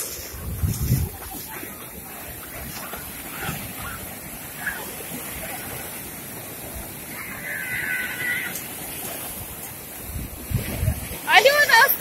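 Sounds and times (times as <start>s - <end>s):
surf breaking on sandy shore: 0.0s - 12.0s.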